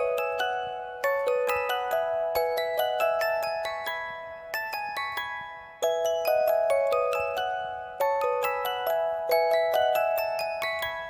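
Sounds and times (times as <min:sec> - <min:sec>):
bell-like melody: 0:00.0 - 0:11.0.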